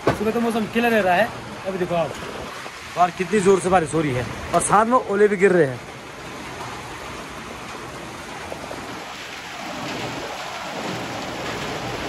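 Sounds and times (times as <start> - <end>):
heavy rain with hail: 0.0 - 12.0.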